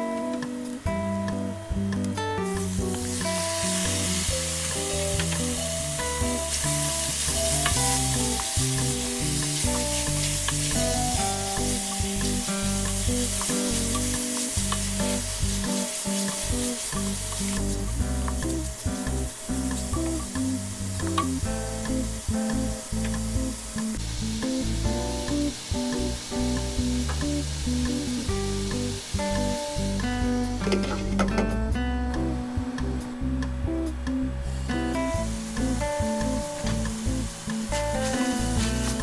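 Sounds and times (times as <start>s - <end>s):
guitar music: 0.0s - 39.0s
pork sizzling in hot oil: 2.4s - 33.0s, 34.5s - 39.0s.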